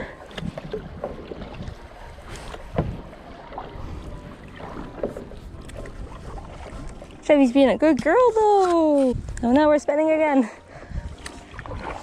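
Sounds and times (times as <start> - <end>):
wind on microphone: 0.0 - 9.8, 10.8 - 12.0
paddle strokes in water: 0.0 - 12.0.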